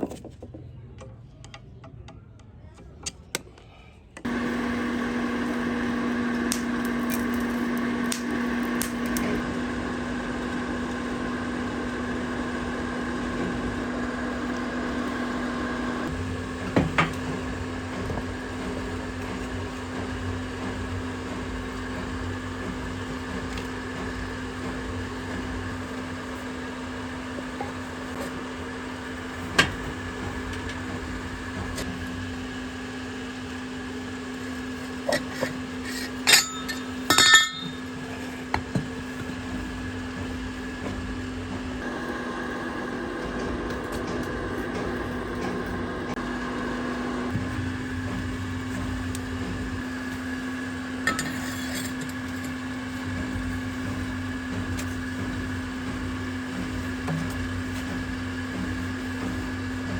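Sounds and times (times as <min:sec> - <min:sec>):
steady machine hum: 0:04.2 - 0:59.9.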